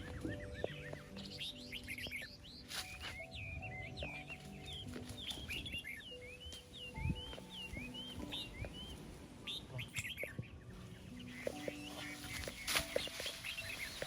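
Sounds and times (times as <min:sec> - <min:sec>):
small birds chirping: 0:00.0 - 0:14.0
soft background music: 0:00.0 - 0:14.0.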